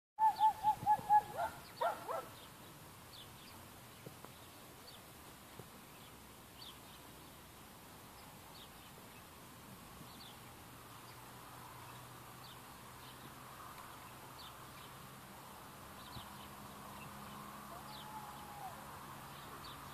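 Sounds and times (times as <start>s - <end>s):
distant small birds chirping: 0.2s - 19.9s.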